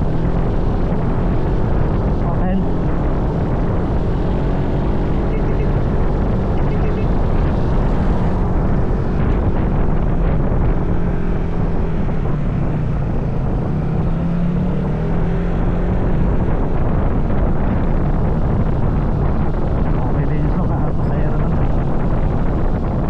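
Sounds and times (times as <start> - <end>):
vehicle engine running: 0.0 - 23.0
wind noise on microphone: 0.0 - 23.0.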